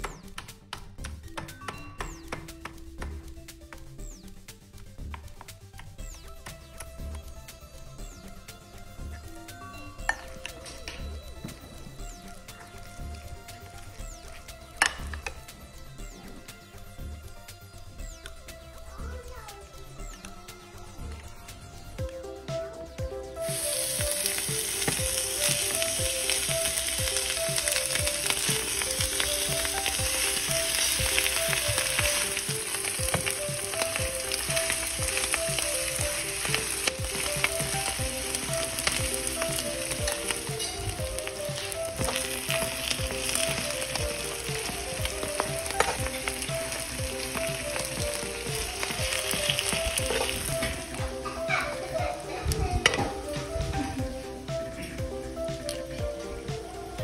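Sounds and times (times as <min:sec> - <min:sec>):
meat sizzling on a hot plate: 0:02.0 - 0:57.0.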